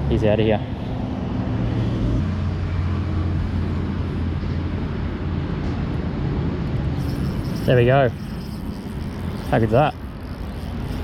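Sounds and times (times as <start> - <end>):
cars driving past rumble: 0.0 - 11.0.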